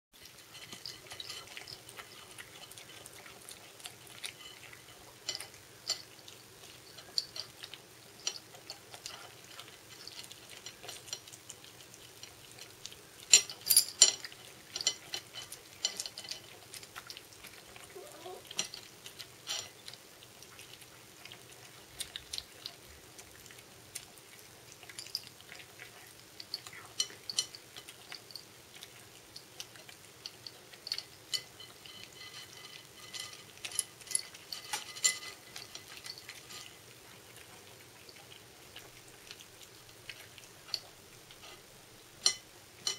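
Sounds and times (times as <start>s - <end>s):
cats chewing and lip-smacking: 0.2s - 42.9s.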